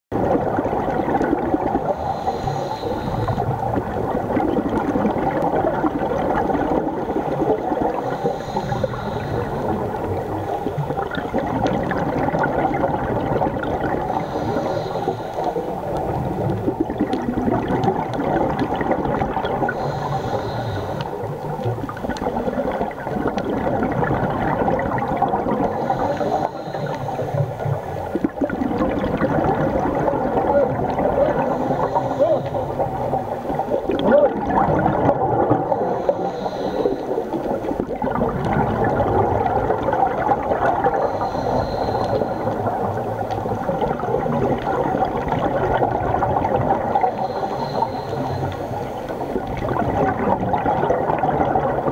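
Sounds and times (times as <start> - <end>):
diver exhaling bubbles: 0.2 - 51.9
underwater hiss: 0.4 - 51.9.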